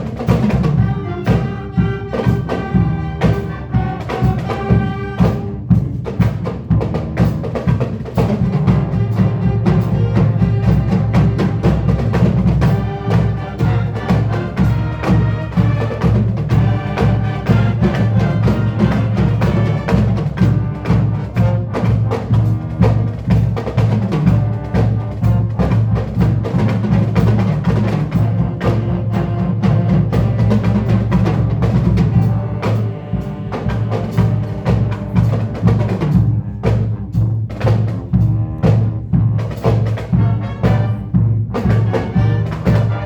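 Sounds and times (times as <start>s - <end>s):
percussion-driven band music: 0.0s - 43.0s.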